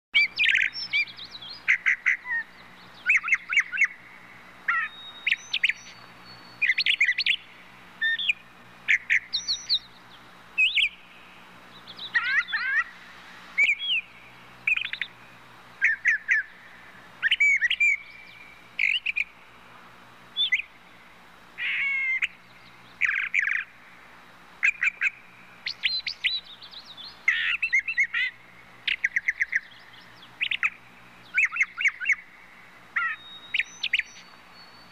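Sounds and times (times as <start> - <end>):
birds chirping and twittering: 0.1 - 34.9.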